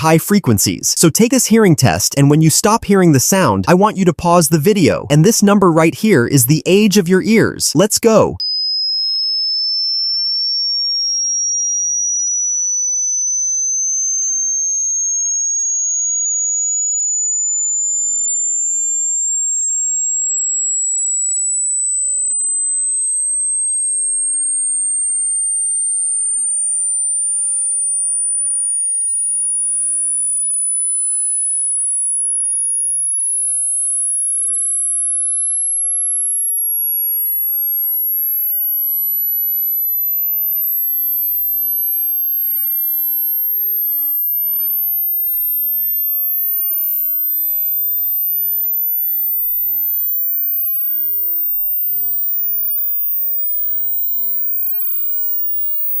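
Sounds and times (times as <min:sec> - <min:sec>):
rising sine test tone: 0:08.4 - 0:56.0.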